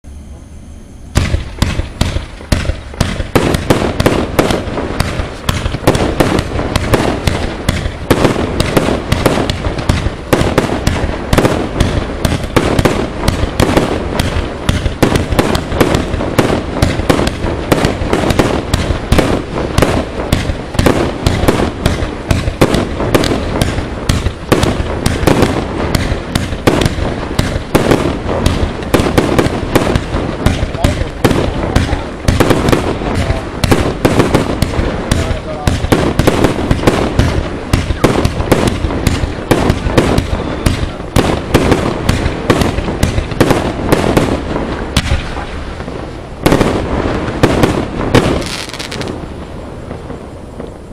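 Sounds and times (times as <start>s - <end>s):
firework barrage bangs: 1.0s - 50.9s.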